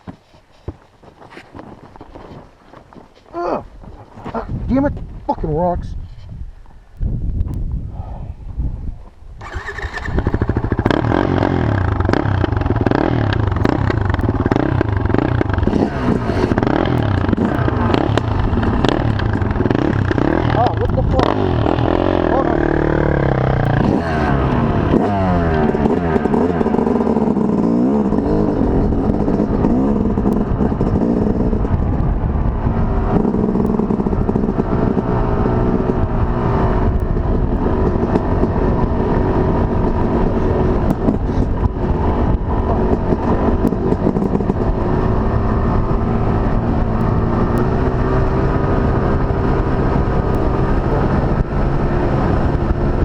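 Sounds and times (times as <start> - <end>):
motorcycle engine revving: 9.4 - 53.0.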